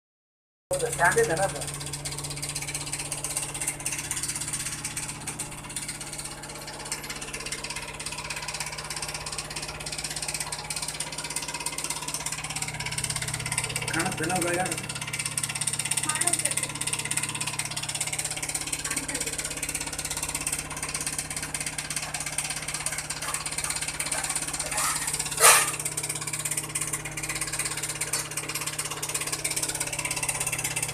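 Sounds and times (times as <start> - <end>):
fast mechanical rattle: 0.7 - 30.9
washing machine motor hum: 0.7 - 30.9.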